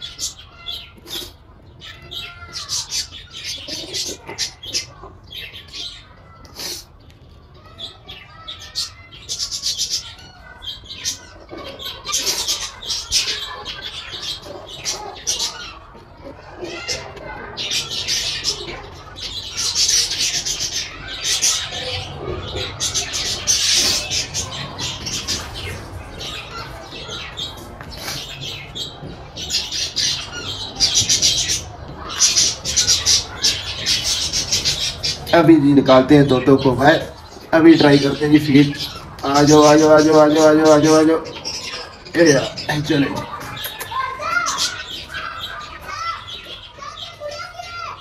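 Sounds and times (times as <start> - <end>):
parakeet chicks squawking: 0.0 - 48.0.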